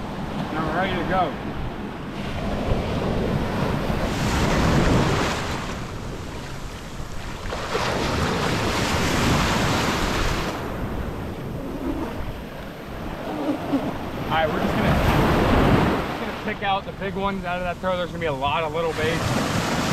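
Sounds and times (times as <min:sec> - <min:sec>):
wind buffeting microphone: 0:00.0 - 0:16.6
ocean surf breaking: 0:00.0 - 0:19.9.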